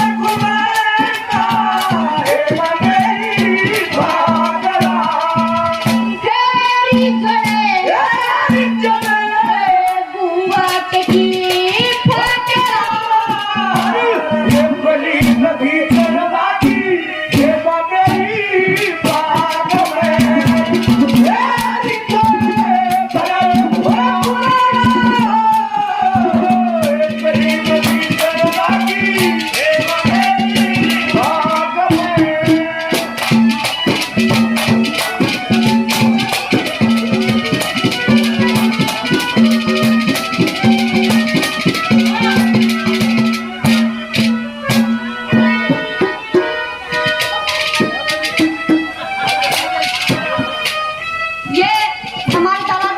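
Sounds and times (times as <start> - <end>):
fast rattling percussion: 0.0 - 52.9
gliding melody line: 10.2 - 52.9.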